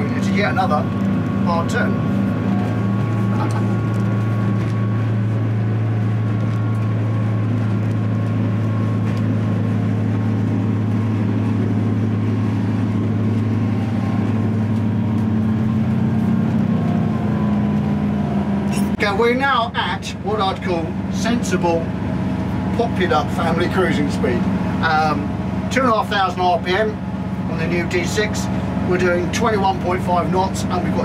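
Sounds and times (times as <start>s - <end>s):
boat diesel engine drone: 0.0s - 31.0s.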